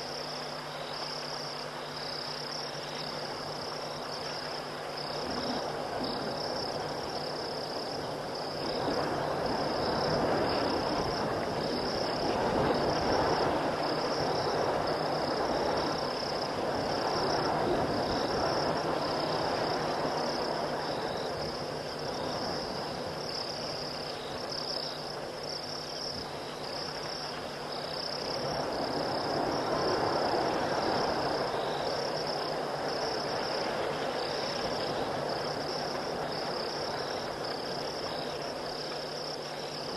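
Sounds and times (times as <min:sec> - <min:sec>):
crickets and insects chirring: 0:00.0 - 0:39.9
low noisy night chorus: 0:00.0 - 0:39.9.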